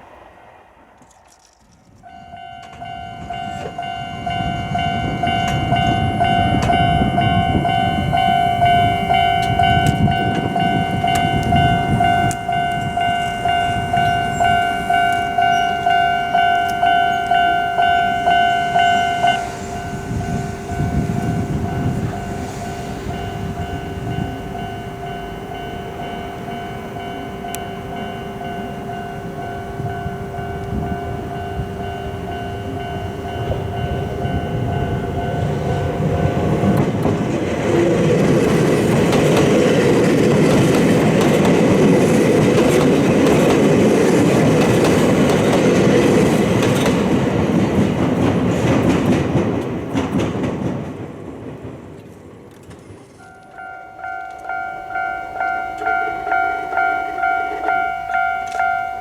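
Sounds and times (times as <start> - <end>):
train wheels rumbling: 0.0 - 59.0
level-crossing warning bell ringing: 2.0 - 49.5, 53.2 - 59.0.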